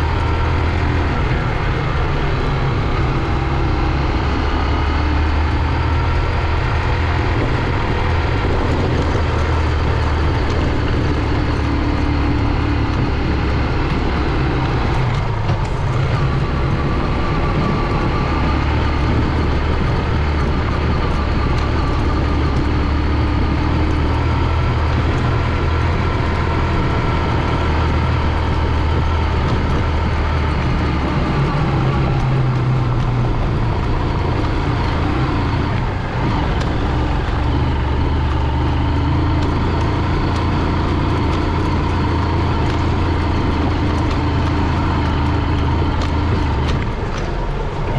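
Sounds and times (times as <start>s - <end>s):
motorcycle engine humming: 0.0s - 47.9s.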